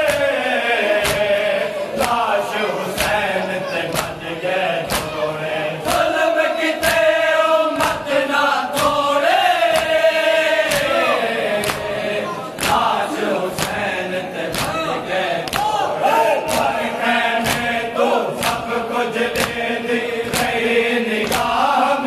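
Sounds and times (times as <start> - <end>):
mourners chanting together: 0.0 - 22.0.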